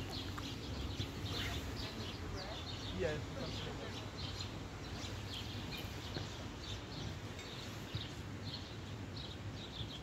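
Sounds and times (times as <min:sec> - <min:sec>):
low rumble of background noise: 0:00.0 - 0:10.0
small birds chirping: 0:00.0 - 0:10.0.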